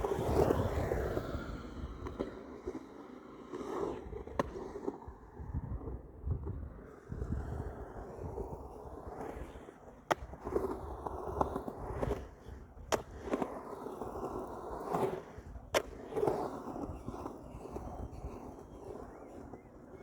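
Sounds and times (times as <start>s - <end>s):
skateboard clacks: 0.0s - 20.0s
skateboard wheels rumbling: 0.0s - 20.0s.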